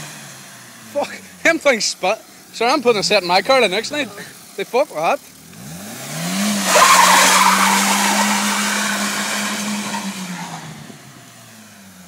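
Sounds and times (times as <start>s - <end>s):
car engine revving: 0.0s - 12.0s
tyres skidding on wet tarmac: 0.0s - 12.0s.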